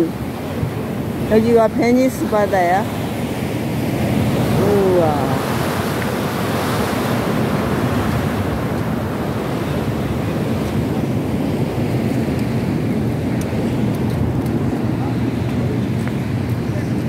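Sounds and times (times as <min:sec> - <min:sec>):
ocean waves breaking: 0:00.0 - 0:17.0
wind on microphone: 0:00.0 - 0:17.0.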